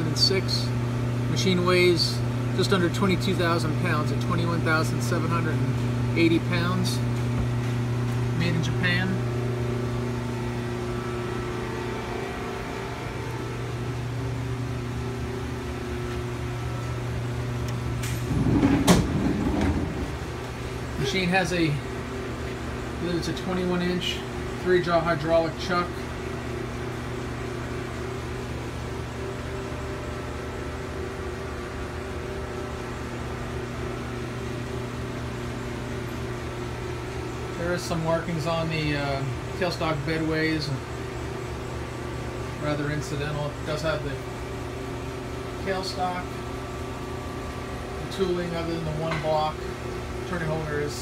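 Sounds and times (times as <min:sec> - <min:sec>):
low machinery hum: 0:00.0 - 0:51.0.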